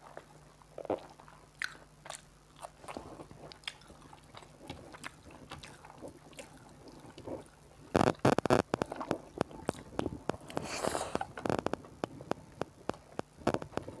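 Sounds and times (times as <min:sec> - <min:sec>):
person chewing with smacking clicks: 0:00.0 - 0:14.0.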